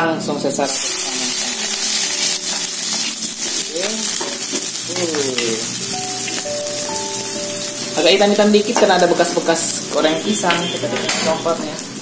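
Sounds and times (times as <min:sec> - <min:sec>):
food sizzling in hot oil: 0:00.4 - 0:12.0
spatula stirring in a wok: 0:00.6 - 0:10.8.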